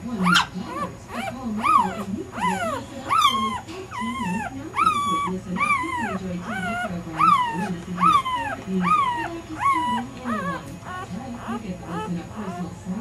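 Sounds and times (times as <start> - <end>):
puppies whining: 0.0 - 13.0.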